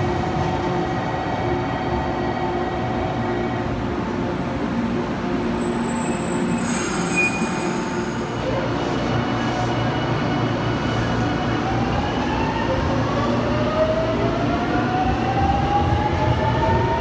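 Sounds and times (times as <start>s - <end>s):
rising train motor whine: 0.0s - 17.0s.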